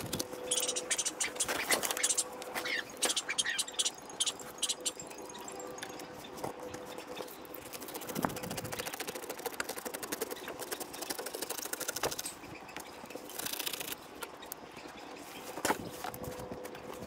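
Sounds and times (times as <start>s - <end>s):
rapid mechanical clicking: 0.0s - 12.4s, 13.1s - 14.6s.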